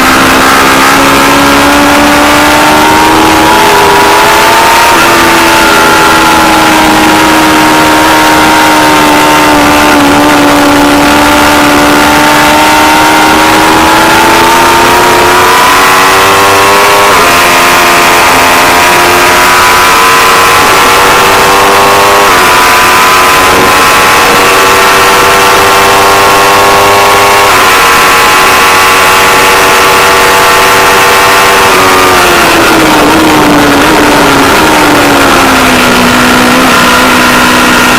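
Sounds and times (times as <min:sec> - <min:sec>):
motorcycle engine shifting gears: 0:00.0 - 0:37.9.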